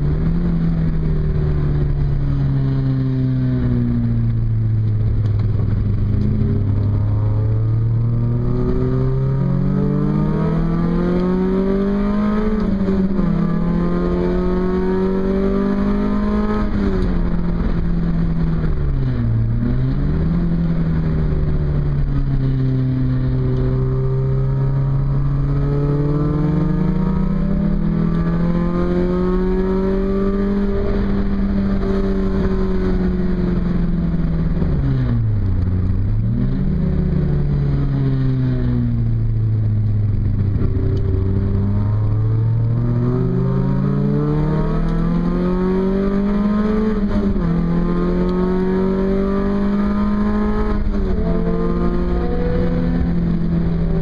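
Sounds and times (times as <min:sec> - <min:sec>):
car engine under hard driving: 0:00.0 - 0:54.0.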